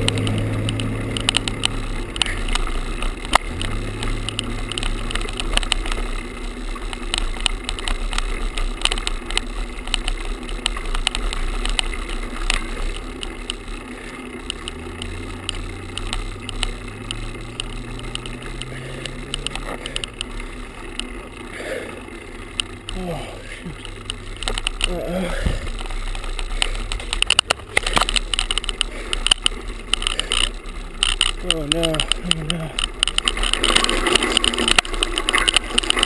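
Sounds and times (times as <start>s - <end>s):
camera rattling against handlebar: 0.0s - 36.0s
low hum: 0.0s - 36.0s
road and tyre noise: 0.0s - 36.0s.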